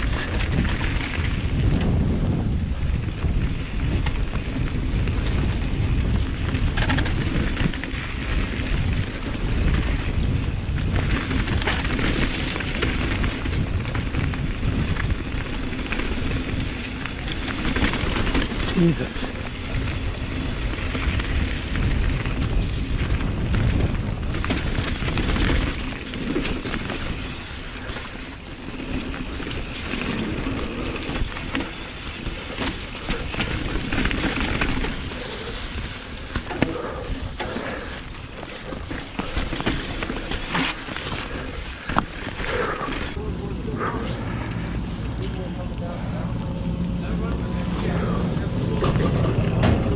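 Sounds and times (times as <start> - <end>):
bike tyres over rough ground: 0.0 - 49.9
wind rumbling on microphone: 0.0 - 49.9.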